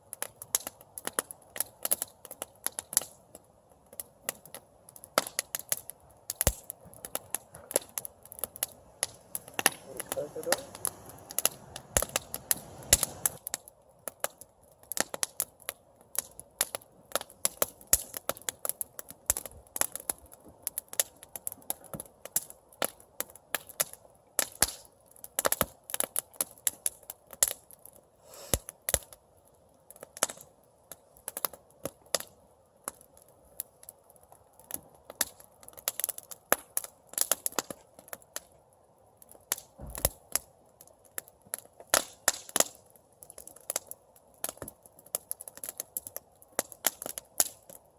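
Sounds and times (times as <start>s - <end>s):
campfire crackling and popping: 0.0s - 47.9s
faint hiss of flames: 0.0s - 47.9s.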